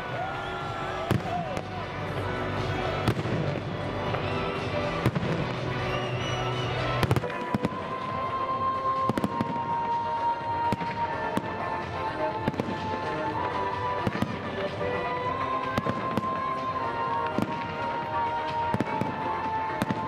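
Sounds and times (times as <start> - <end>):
music playing: 0.0 - 20.0
fireworks bangs and crackles: 0.9 - 20.0.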